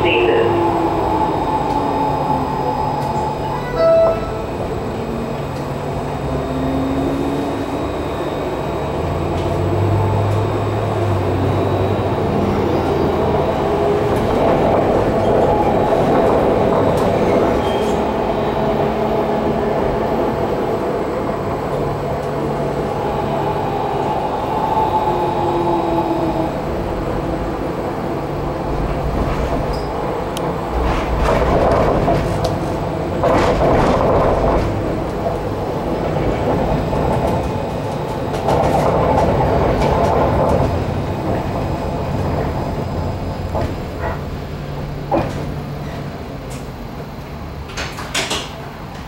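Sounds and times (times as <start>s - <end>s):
tram wheels rolling on rails: 0.0s - 49.0s.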